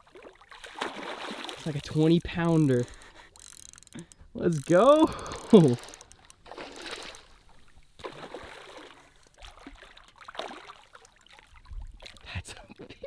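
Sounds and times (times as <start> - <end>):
water splashing and trickling: 0.0 - 12.6.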